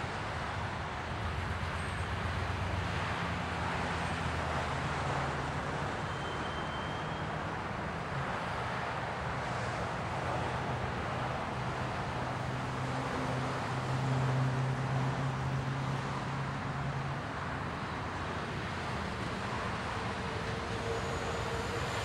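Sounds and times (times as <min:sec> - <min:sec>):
vehicles crossing railroad crossing: 0:00.0 - 0:22.0.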